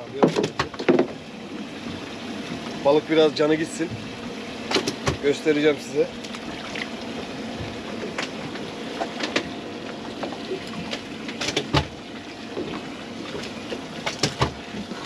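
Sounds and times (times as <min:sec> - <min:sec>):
boat background noise: 0:00.0 - 0:15.0.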